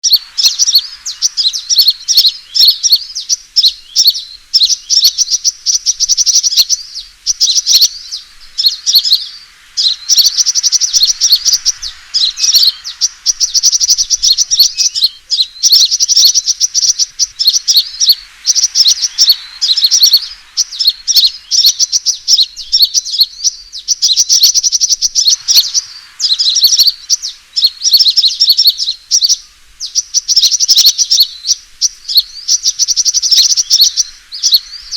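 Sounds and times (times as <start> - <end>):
high twittering bird trills: 0.0 - 34.9.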